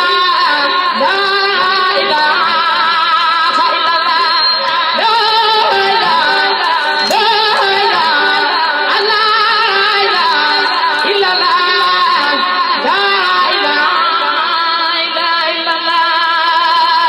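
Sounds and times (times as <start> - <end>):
person singing long wavering notes: 0.0 - 17.0.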